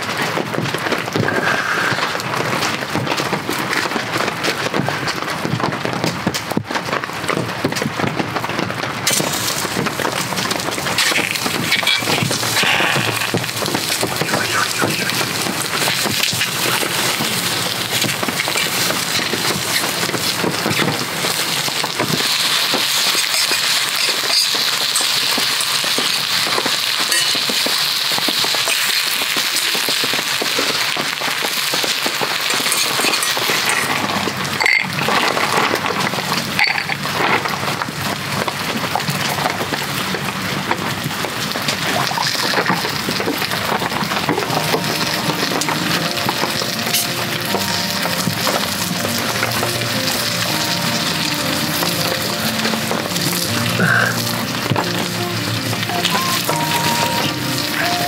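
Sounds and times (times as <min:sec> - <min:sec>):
chicken sizzling in a frying pan: 0:09.1 - 0:58.0.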